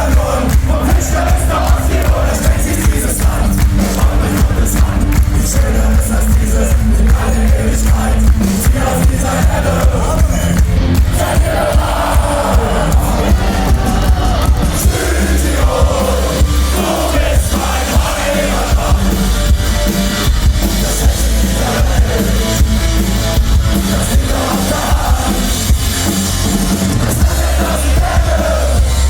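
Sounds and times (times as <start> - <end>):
drum kit: 0.0 - 29.0
heavy bass: 0.0 - 29.0.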